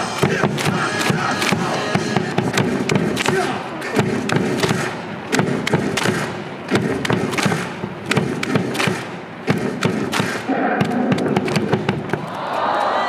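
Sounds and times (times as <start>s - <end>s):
crowd din: 0.0s - 13.0s
stadium crowd clapping: 0.0s - 13.0s.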